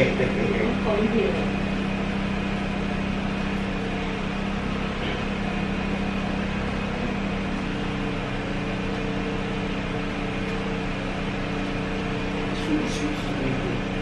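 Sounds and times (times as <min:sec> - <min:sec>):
motor or fan humming: 0:00.0 - 0:14.0.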